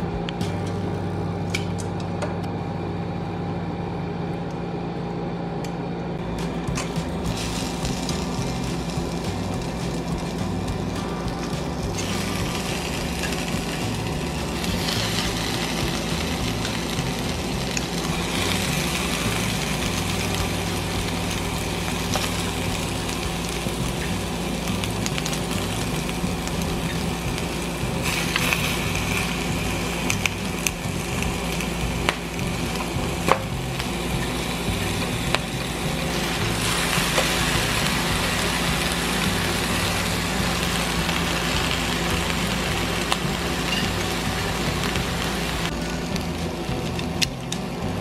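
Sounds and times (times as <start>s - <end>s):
meat sizzling in a frying pan: 7.0s - 47.9s.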